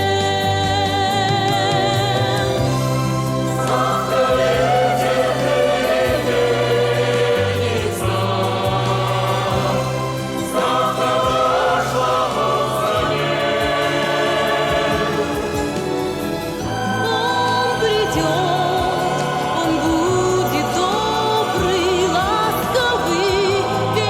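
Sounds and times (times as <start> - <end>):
choir singing wordless notes: 0.0 - 24.0.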